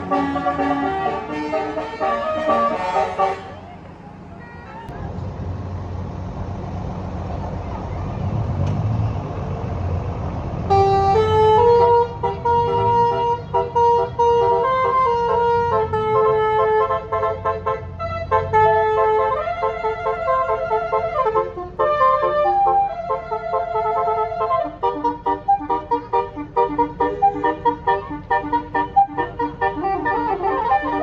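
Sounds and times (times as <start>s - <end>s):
multi-tone bus horn melody: 0.0s - 4.9s, 10.7s - 31.0s
bus engine rumble: 0.0s - 31.0s.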